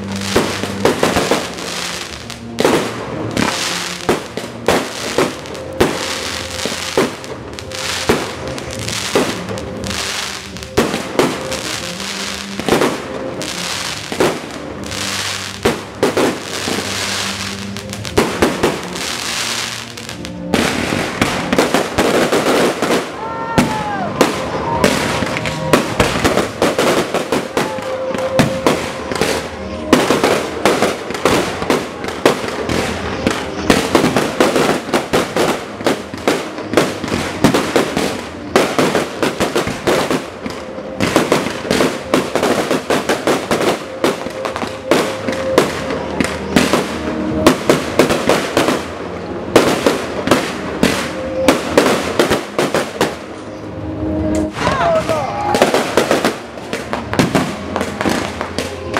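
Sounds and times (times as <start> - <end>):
fireworks bangs and crackling: 0.0 - 58.9
music: 0.0 - 58.9.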